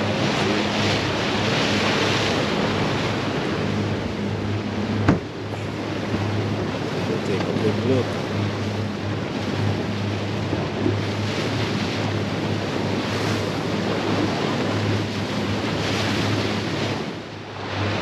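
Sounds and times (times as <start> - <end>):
boat engine hum: 0.0 - 18.0
water rushing: 0.0 - 18.0
wind buffeting microphone: 0.0 - 18.0.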